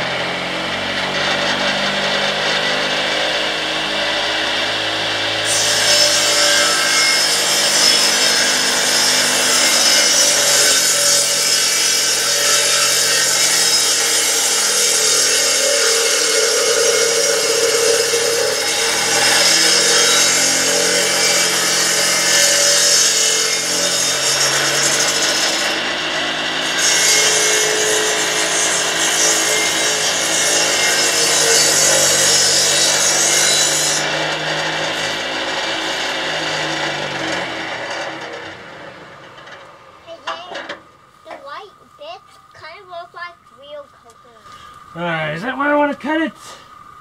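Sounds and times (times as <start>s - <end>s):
saw cutting through log: 0.0s - 39.3s.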